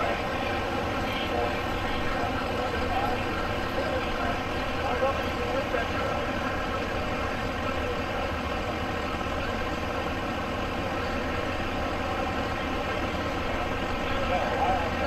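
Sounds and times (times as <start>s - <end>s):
heavy vehicle engine idling: 0.0s - 15.0s.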